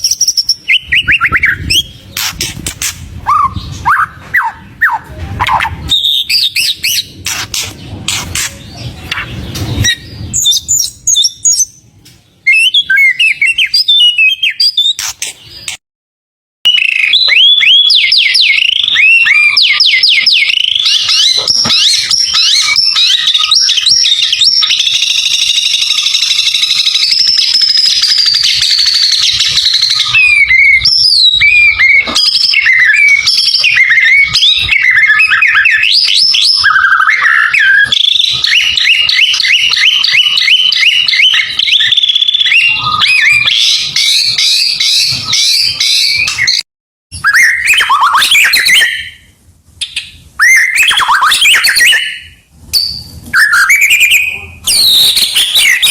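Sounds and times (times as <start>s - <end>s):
bird singing whistles and trills: 0.0s - 15.8s, 16.7s - 55.9s.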